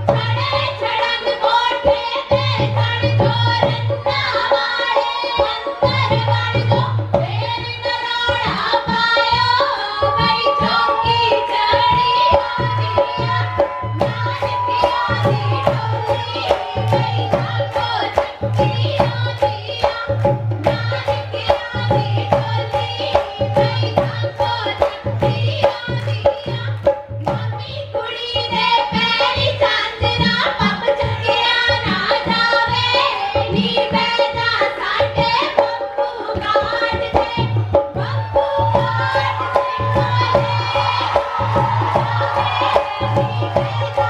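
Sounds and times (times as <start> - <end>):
women singing: 0.0 - 44.0
hand drum beating: 5.3 - 44.0.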